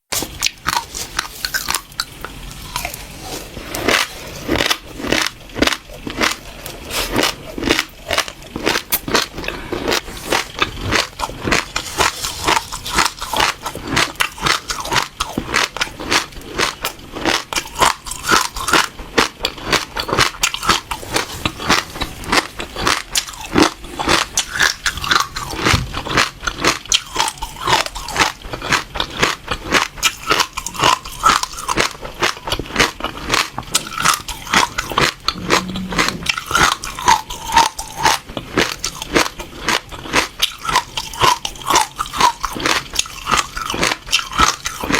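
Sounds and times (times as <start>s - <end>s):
crunchy chewing of seeds: 0.1s - 44.9s.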